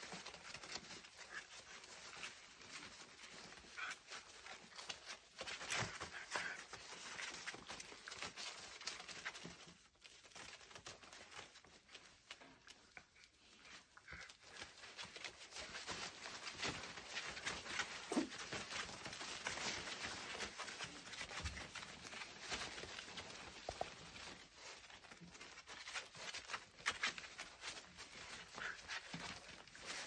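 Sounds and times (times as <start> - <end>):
patter of dog claws: 0.0 - 30.0
plastic tarp crinkling: 0.0 - 30.0.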